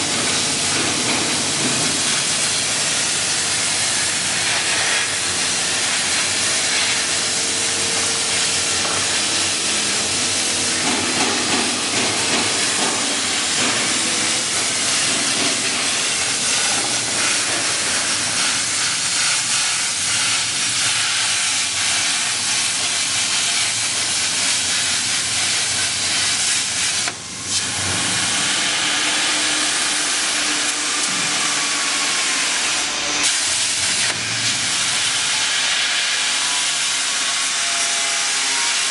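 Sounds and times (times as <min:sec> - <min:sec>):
plasma torch hissing: 0:00.0 - 0:38.8.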